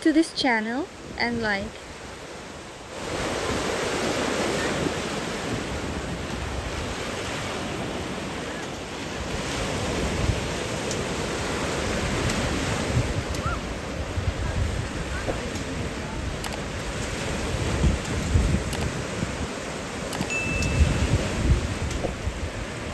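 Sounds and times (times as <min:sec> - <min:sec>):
waves breaking on a beach: 0:00.0 - 0:22.9
wind rumbling on microphone: 0:00.0 - 0:22.9.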